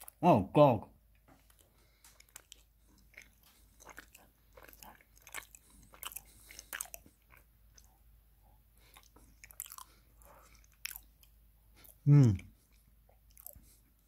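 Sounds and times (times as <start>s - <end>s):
person chewing: 0.0s - 0.2s, 1.2s - 14.0s.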